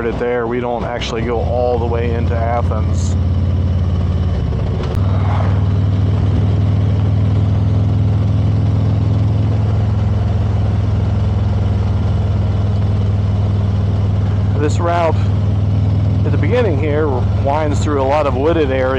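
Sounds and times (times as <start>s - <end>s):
motorcycle engine running: 0.0s - 18.9s
road and wind noise: 0.0s - 18.9s.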